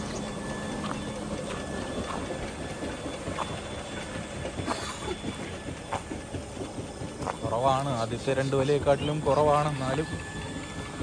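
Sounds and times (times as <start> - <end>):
motor pump drone: 0.0 - 11.0.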